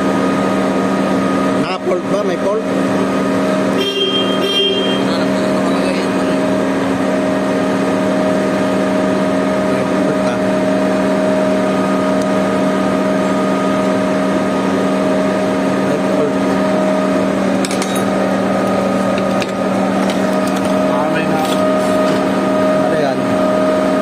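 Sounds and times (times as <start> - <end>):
concrete pump truck droning: 0.0 - 24.0.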